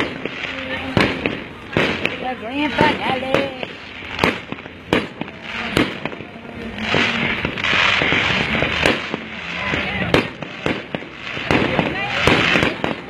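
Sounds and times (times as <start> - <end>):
fireworks booming: 0.0 - 13.0
fireworks hissing crackle: 0.0 - 13.0.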